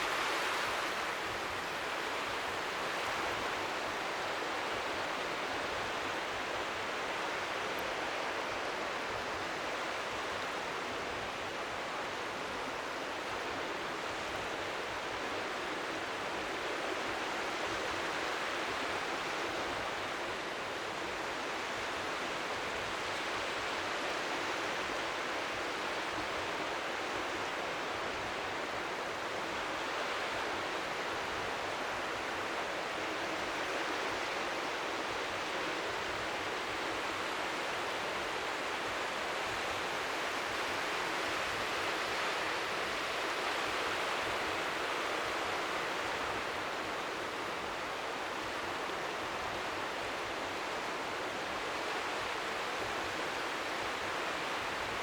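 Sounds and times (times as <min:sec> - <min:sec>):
strong wind hiss: 0:00.0 - 0:55.0.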